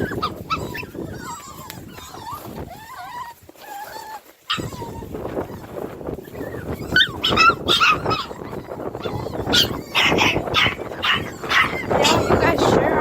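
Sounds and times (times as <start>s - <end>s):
puppies yipping and whimpering: 0.0s - 13.0s
scuffling noise: 0.0s - 13.0s.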